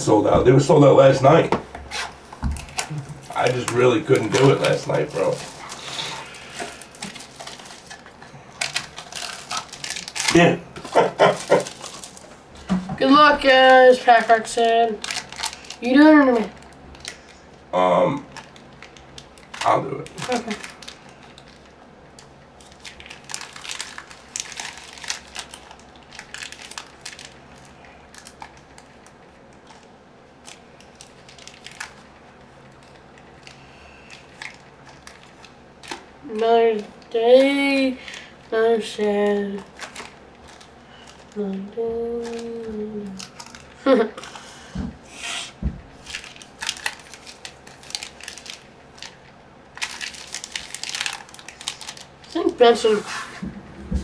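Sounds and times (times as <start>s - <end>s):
foil card packs crinkling: 1.9s - 17.6s, 18.2s - 44.8s, 45.9s - 53.0s.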